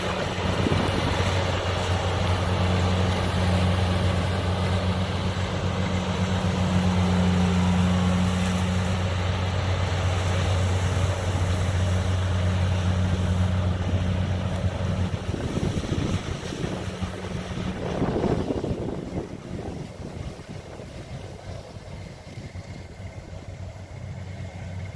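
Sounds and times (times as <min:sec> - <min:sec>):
engine low hum: 0:00.0 - 0:24.9
machine rumble: 0:00.0 - 0:24.9.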